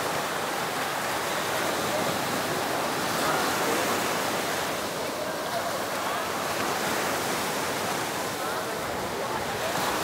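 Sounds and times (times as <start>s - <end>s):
waves washing onto beach: 0.0s - 10.0s
faint crowd voices: 1.2s - 10.0s.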